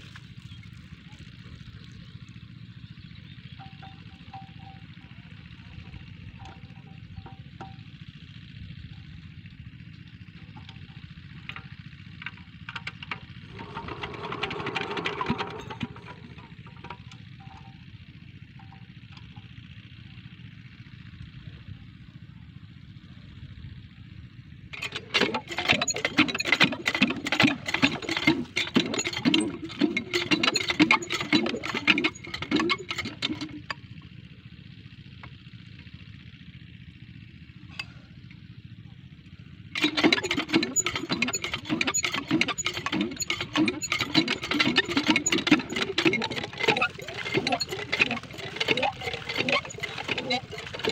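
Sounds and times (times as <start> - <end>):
diesel engine chugging: 0.0 - 50.9.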